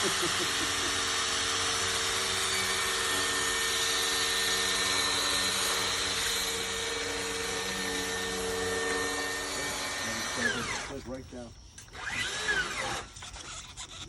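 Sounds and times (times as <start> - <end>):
motor running with hiss and hum: 0.0 - 14.0.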